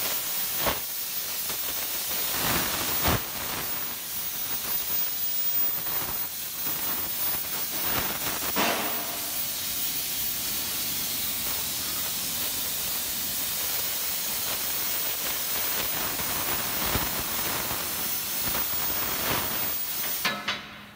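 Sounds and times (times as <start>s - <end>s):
plasma torch hissing: 0.0s - 20.5s.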